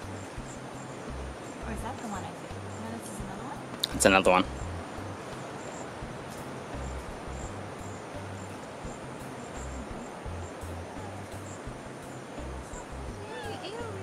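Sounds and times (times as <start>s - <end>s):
low rumble: 0.0s - 5.4s, 6.0s - 14.0s
crickets chirping: 0.0s - 14.0s
steady hiss: 0.0s - 14.0s.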